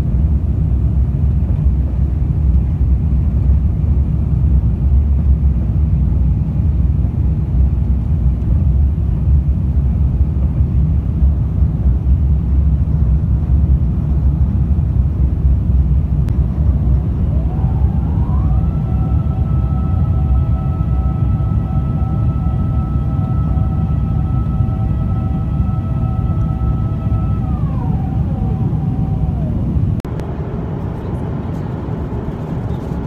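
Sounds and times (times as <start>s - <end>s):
jet airliner cabin rumble: 0.0s - 33.0s.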